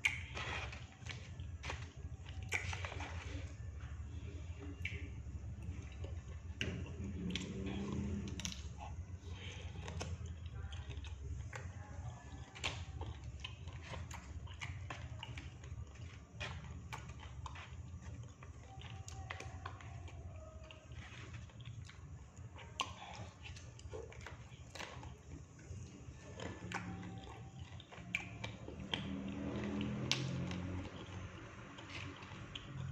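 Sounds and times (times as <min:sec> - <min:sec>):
low steady hum: 0:00.0 - 0:32.9
person chewing food: 0:00.0 - 0:32.9.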